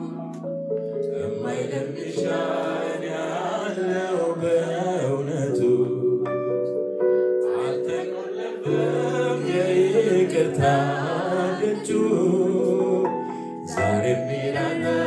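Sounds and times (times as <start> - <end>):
keyboard chords: 0.0 - 15.0
man singing into a microphone: 1.1 - 6.1, 7.4 - 15.0.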